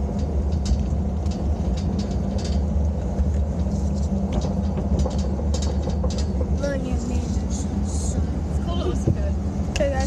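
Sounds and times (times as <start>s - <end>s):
light rattles: 0.0s - 10.0s
truck engine and road noise: 0.0s - 10.0s.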